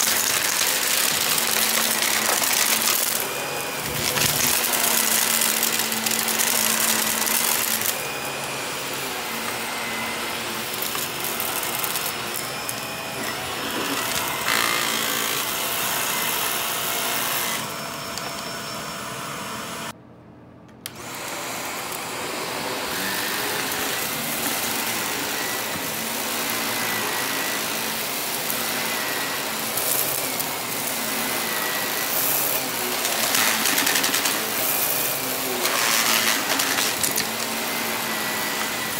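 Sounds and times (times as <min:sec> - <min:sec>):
vacuum cleaner running on carpet: 0:00.0 - 0:19.9, 0:20.8 - 0:38.9.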